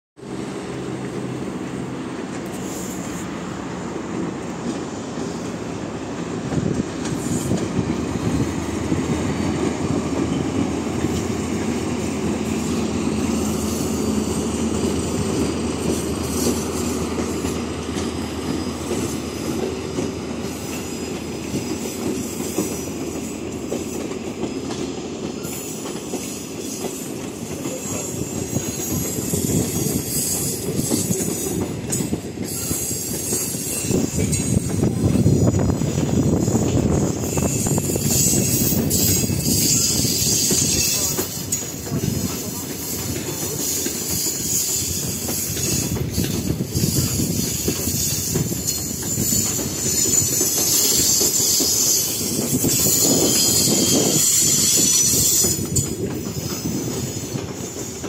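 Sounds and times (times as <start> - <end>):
coaches rolling on rails: 0.2 - 58.0.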